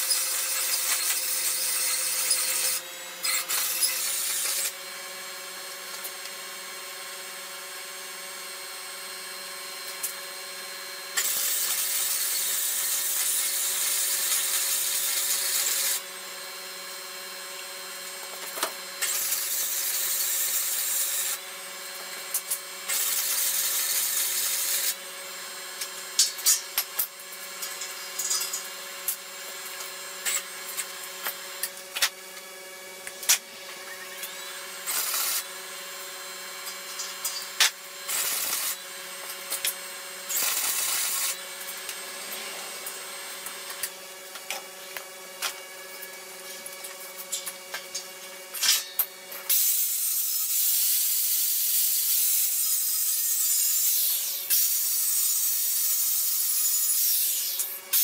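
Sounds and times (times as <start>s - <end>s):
welding arc crackling and hissing: 0.0s - 4.8s, 11.2s - 16.1s, 17.5s - 58.0s.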